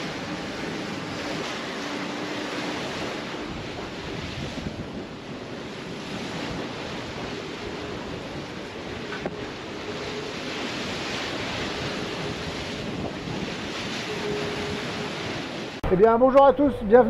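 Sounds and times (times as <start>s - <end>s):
wind buffeting microphone: 0.0s - 15.8s
water rushing along hull: 0.0s - 17.0s.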